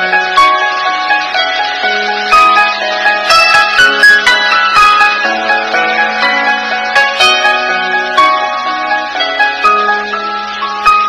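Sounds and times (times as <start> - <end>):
melody of sharply struck notes: 0.0 - 11.0.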